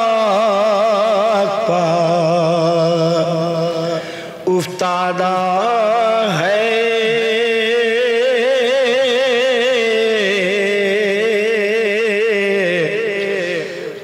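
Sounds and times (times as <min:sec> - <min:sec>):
man chanting with vibrato: 0:00.0 - 0:14.0.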